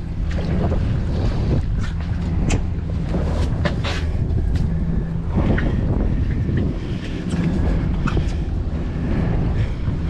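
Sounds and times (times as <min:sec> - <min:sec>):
steady low hum: 0:00.0 - 0:10.0
wind buffeting microphone: 0:00.0 - 0:10.0.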